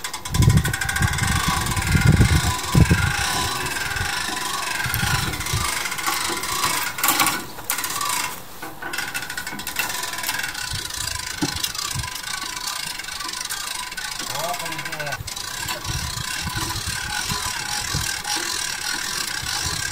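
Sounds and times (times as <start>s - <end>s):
winch whirring and clicking: 0.0s - 19.9s.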